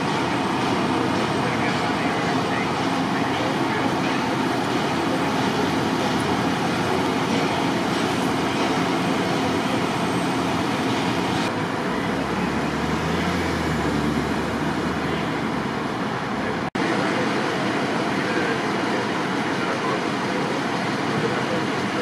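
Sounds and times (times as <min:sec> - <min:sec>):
city traffic: 0:00.0 - 0:22.0.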